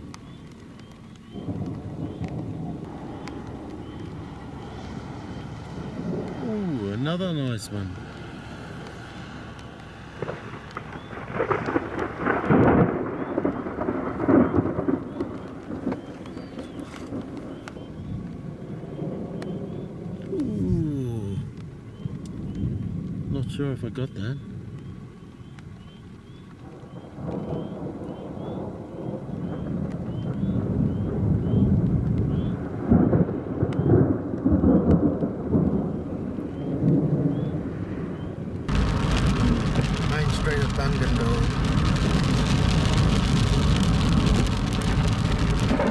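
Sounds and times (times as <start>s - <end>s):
thunder rumbling: 0.0s - 45.9s.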